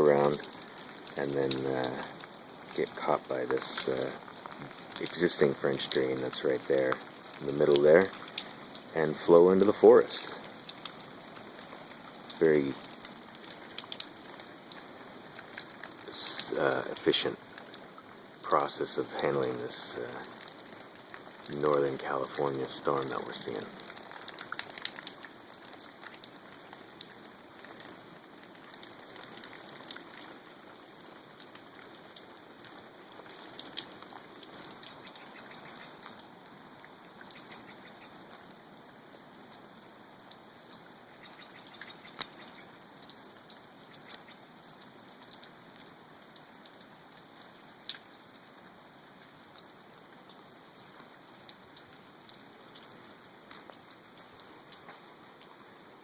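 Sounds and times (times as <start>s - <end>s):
light rain hissing: 0.0s - 56.0s
raindrops ticking: 0.0s - 56.0s.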